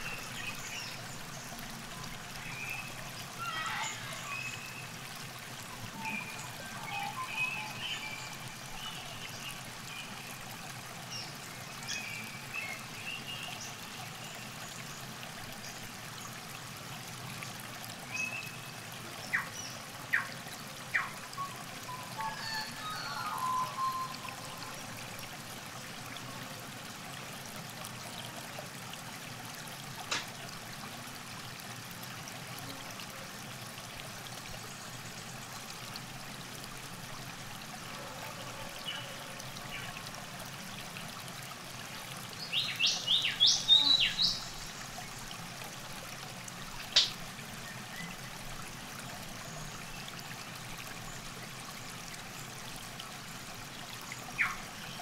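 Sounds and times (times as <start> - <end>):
river water trickling: 0.0 - 55.0.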